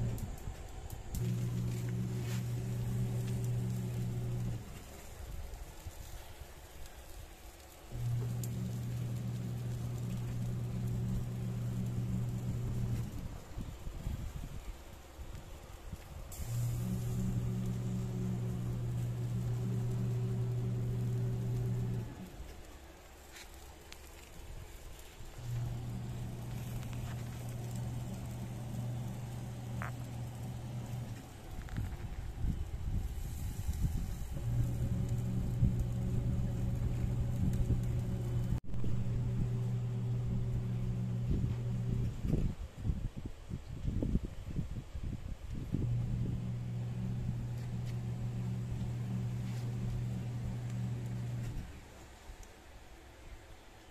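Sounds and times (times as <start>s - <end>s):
electric blower humming: 0.0s - 15.3s, 15.9s - 42.6s, 45.5s - 52.4s.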